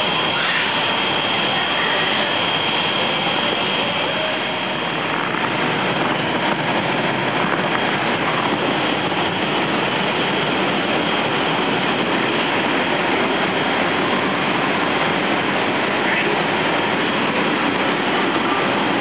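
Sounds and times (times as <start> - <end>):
blower fan rushing: 0.0 - 19.0.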